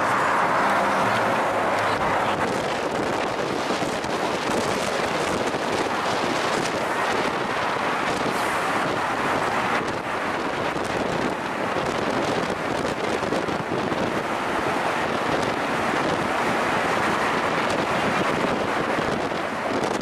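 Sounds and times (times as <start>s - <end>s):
car road noise in tunnel: 0.0s - 20.0s.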